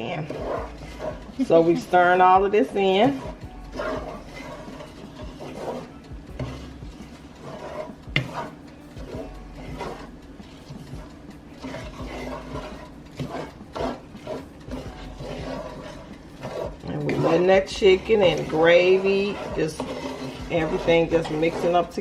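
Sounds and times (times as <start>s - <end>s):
spoon scraping a pan: 0.0s - 22.0s.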